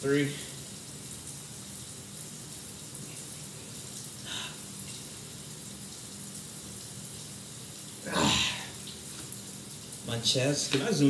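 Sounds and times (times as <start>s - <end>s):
shower water hissing: 0.0s - 11.0s.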